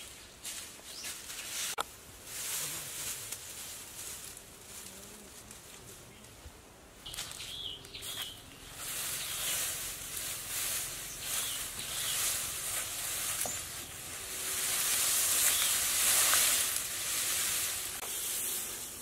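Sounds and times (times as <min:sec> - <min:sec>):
dry grass rustling and crackling: 0:00.0 - 0:19.0.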